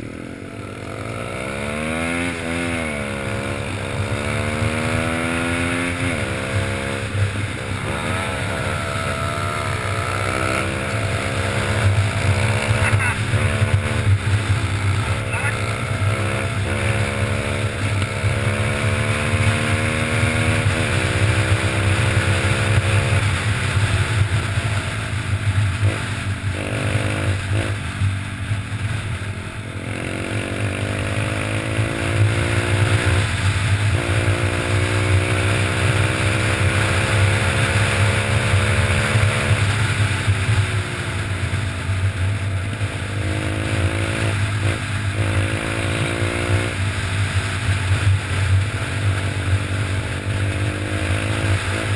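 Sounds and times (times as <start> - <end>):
motorbike engine revving through gears: 0.0 - 29.0, 29.6 - 51.9.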